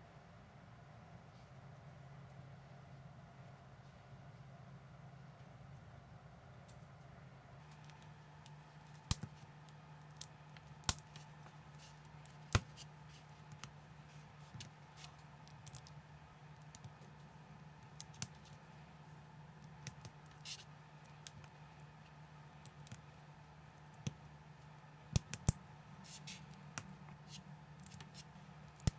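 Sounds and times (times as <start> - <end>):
faint low hum: 0.0 - 28.9.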